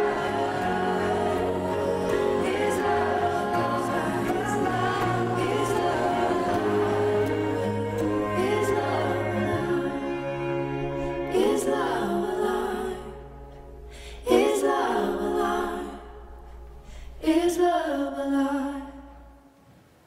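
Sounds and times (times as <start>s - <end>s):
a cappella vocal harmonies: 0.0s - 19.6s.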